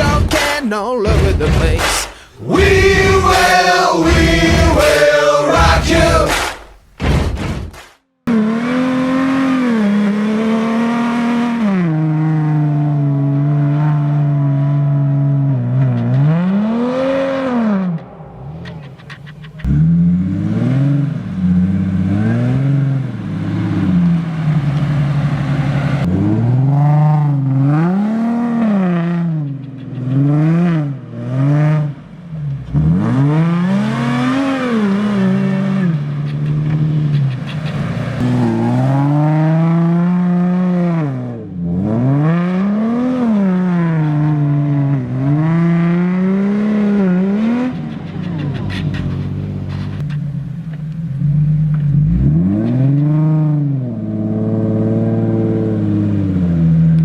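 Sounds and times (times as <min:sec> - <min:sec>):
car engine revving: 0:00.0 - 0:07.1, 0:08.3 - 0:57.0.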